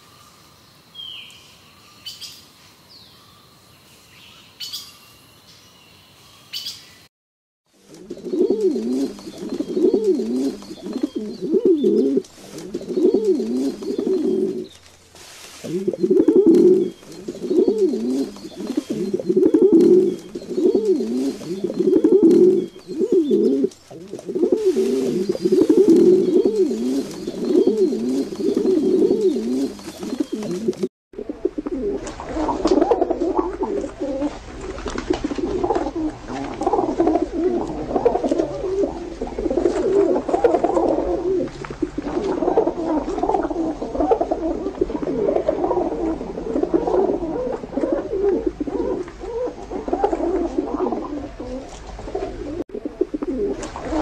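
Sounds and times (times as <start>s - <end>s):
pigeons cooing: 7.8s - 14.9s, 15.5s - 54.0s.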